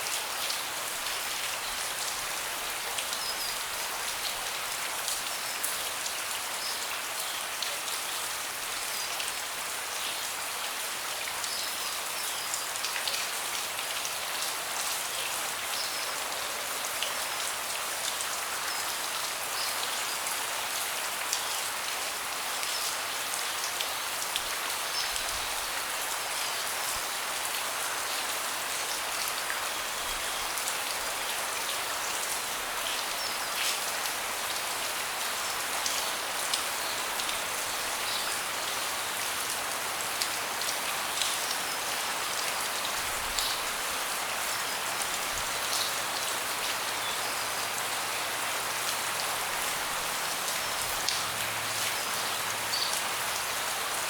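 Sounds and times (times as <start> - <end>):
rain falling on a deck: 0.0 - 54.0.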